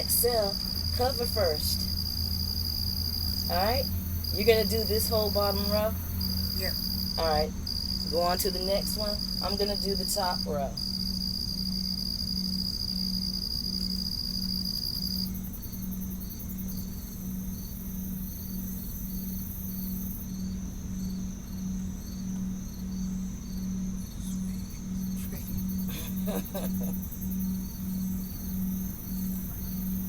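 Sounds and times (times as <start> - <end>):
continuous high insect trill: 0.0 - 30.0
low pulsing hum: 0.0 - 30.0.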